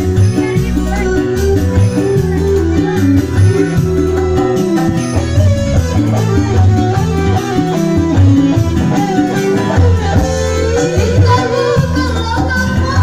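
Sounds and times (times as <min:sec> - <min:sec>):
bass and drum beat: 0:00.0 - 0:13.0
gliding lead melody: 0:00.0 - 0:13.0
live band playing: 0:00.0 - 0:13.0.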